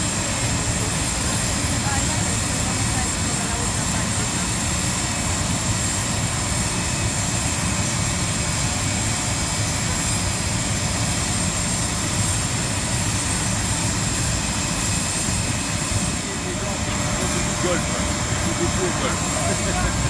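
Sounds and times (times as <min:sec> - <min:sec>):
aircraft turbine whine: 0:00.0 - 0:20.0.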